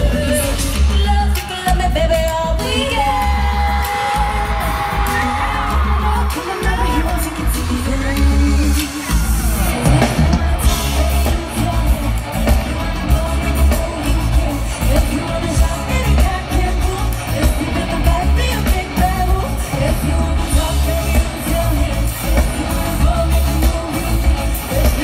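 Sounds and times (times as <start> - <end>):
amplified pop band: 0.0 - 25.0
female vocal group singing: 0.0 - 25.0.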